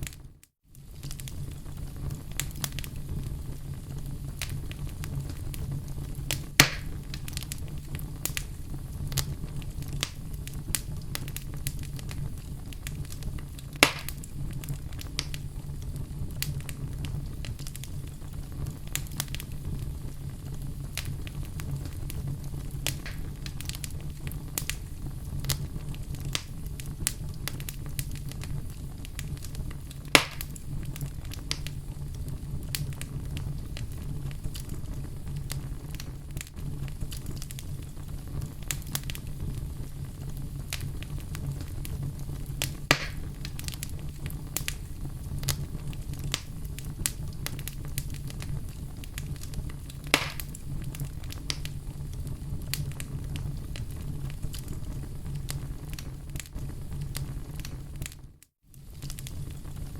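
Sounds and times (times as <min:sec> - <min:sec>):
sharp fire pops: 0:00.0 - 0:58.2, 0:58.8 - 0:59.9
wood fire crackling: 0:00.0 - 0:59.9.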